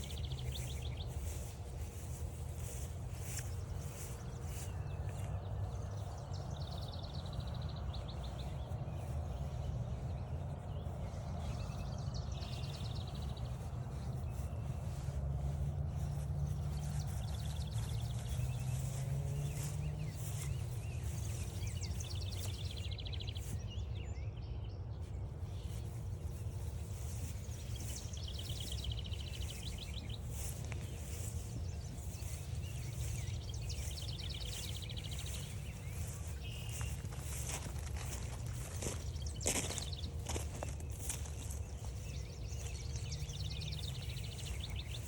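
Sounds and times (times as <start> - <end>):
footsteps crunching on trail: 0.0 - 23.8, 25.4 - 45.0
steady low rumble: 0.0 - 24.2, 24.8 - 45.0.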